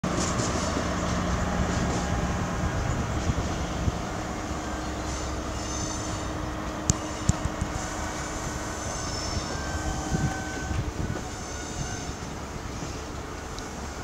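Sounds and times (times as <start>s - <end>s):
diesel train engine droning: 0.0s - 14.0s.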